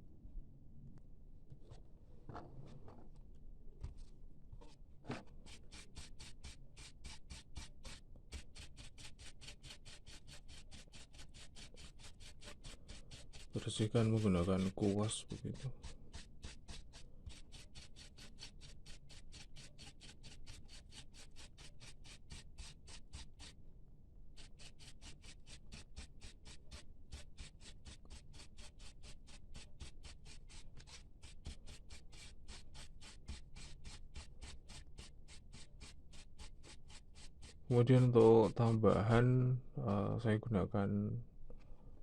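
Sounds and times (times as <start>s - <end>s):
brush scrubbing a fan: 3.7s - 23.6s, 24.3s - 39.6s.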